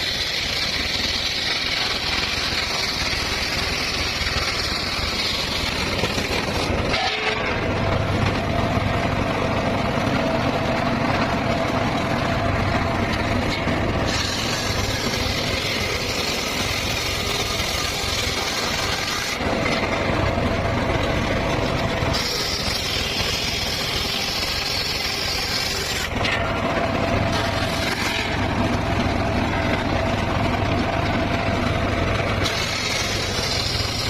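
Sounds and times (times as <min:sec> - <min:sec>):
circular saw cutting wood: 0:00.0 - 0:34.0.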